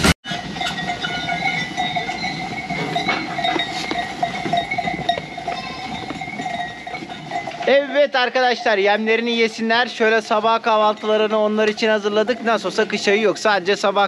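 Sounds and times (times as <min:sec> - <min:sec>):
sheep feeding: 0:00.3 - 0:14.0.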